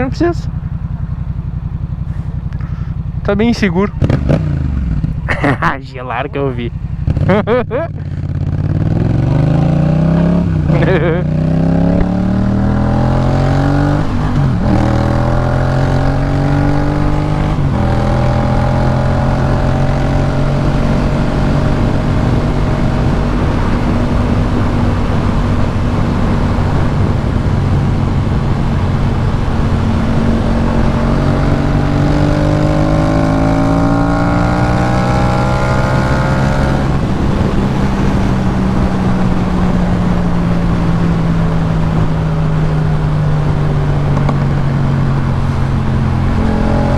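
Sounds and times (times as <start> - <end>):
motorcycle engine while riding: 0.0 - 46.9.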